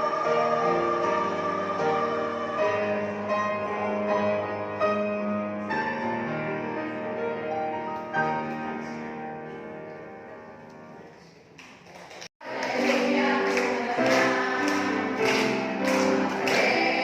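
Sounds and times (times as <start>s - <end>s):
slow piano chords: 0.0s - 11.3s, 12.5s - 17.0s.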